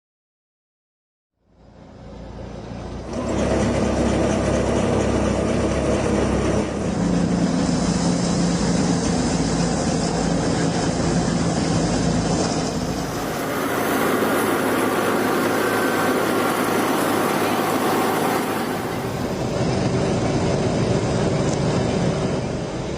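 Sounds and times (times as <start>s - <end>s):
farm machinery running: 1.8s - 22.9s.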